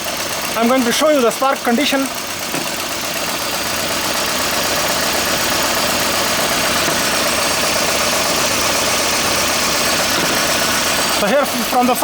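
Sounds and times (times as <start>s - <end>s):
car engine idling with misfire: 0.0s - 12.0s.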